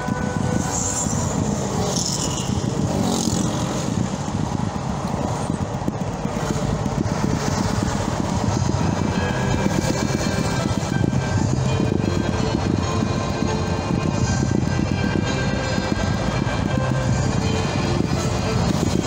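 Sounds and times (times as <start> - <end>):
car driving at highway speed: 0.0 - 19.0.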